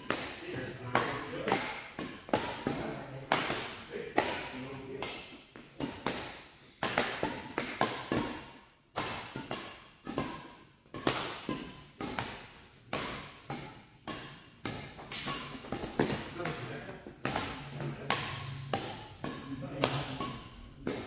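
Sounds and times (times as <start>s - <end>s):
racket smacking shuttlecock: 0.0s - 21.0s.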